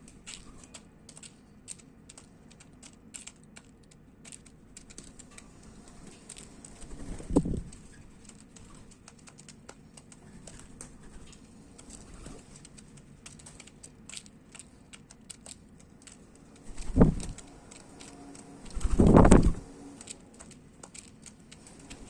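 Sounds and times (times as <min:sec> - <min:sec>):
birds pecking at seed: 0:00.0 - 0:22.0.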